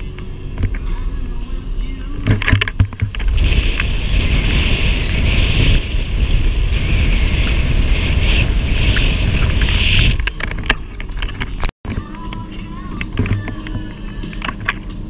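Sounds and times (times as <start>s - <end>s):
wind blasting microphone: 0.0s - 14.9s.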